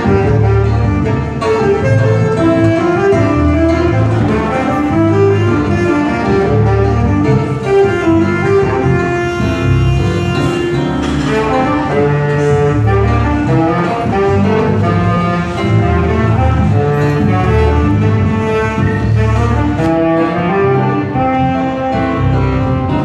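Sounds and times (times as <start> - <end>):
acoustic guitar: 0.0 - 23.0
bass notes: 0.0 - 23.0
tenor saxophone melody: 0.0 - 23.0.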